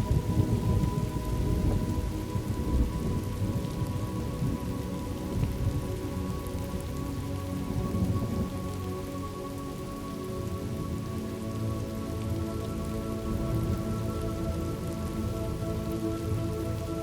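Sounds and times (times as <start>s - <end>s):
faint steady tones: 0.0s - 17.0s
steady rain: 0.0s - 17.0s.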